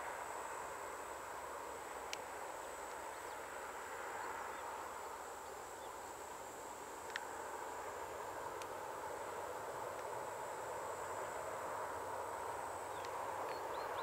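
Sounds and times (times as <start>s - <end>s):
low hiss: 0.0s - 14.0s.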